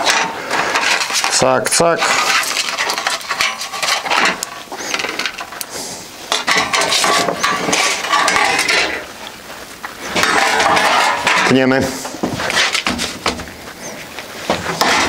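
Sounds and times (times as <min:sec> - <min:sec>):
sheet metal scraping: 0:00.0 - 0:09.2, 0:10.0 - 0:15.0.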